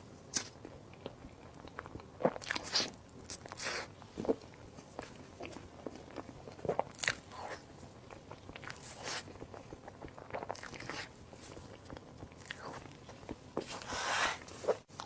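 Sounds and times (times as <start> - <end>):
person biting and chewing food: 0.3 - 4.5, 5.1 - 7.7, 8.5 - 15.0.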